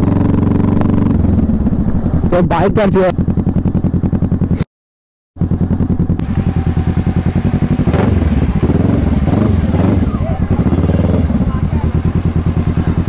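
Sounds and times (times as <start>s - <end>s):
motorcycle engine throbbing: 0.0s - 4.7s, 5.4s - 13.0s.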